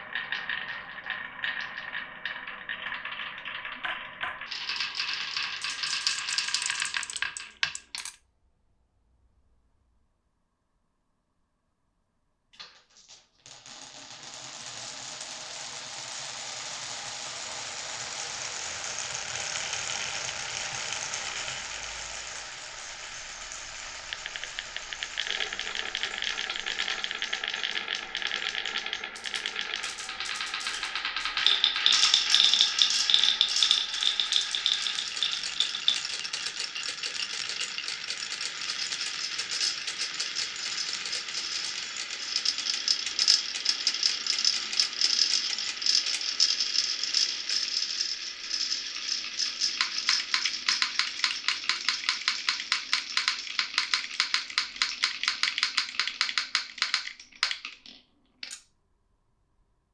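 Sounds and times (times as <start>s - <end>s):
glass marbles rattling in wooden run: 0.0s - 8.2s, 12.6s - 58.6s.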